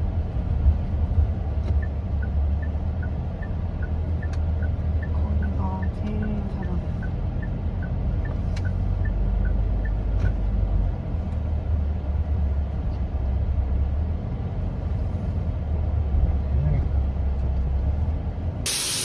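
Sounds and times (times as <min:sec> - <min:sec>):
car rumble: 0:00.0 - 0:19.0.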